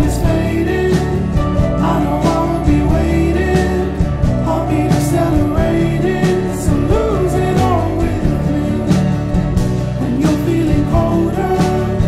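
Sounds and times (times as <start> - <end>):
song with singing and beat: 0.0 - 12.0.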